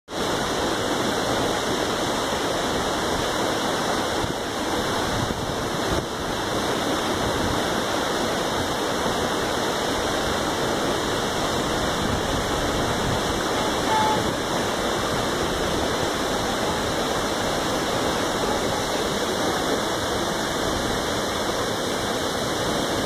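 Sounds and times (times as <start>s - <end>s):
waterfall rushing: 0.1s - 23.0s.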